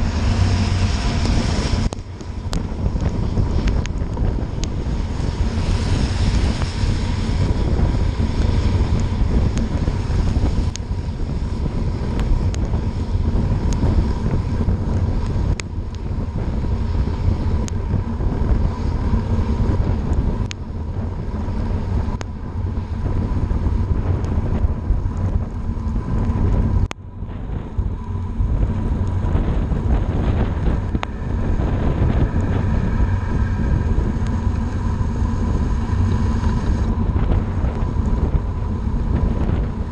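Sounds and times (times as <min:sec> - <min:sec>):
tyres on wet road: 0:00.0 - 0:39.9
wind buffeting microphone: 0:00.0 - 0:39.9.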